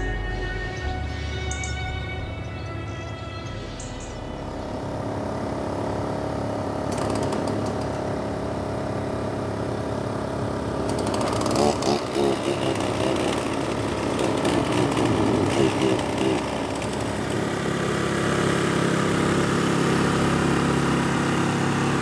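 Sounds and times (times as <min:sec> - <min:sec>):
boat diesel engine running: 0:00.0 - 0:22.0.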